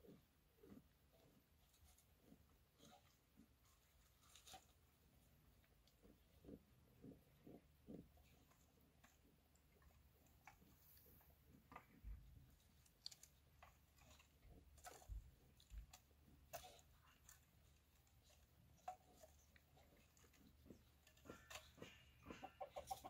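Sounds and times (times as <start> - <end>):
faint clicks and ticks: 0.0 - 23.0.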